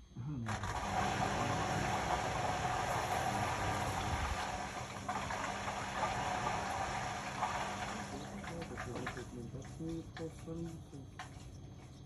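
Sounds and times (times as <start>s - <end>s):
washing machine running: 0.4s - 12.0s.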